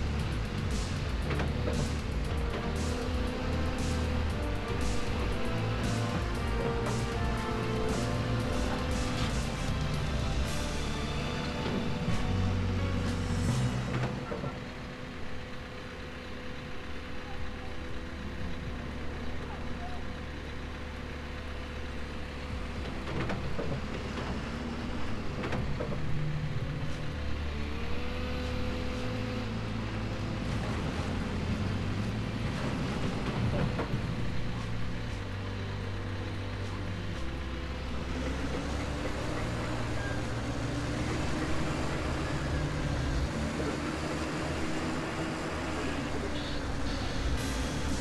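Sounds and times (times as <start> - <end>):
excavator engine under load: 0.0 - 48.0.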